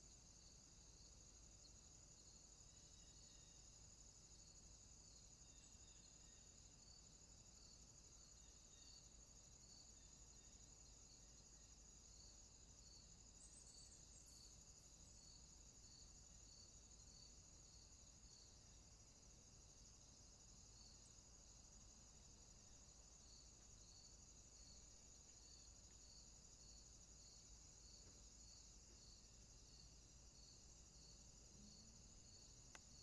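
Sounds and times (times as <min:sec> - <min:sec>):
crickets trilling and chirping: 0:00.0 - 0:33.0.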